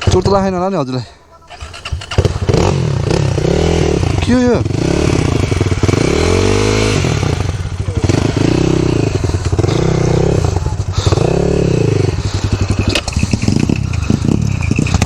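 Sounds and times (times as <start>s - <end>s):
dirt bike engine revving: 0.0s - 0.5s, 1.3s - 15.0s.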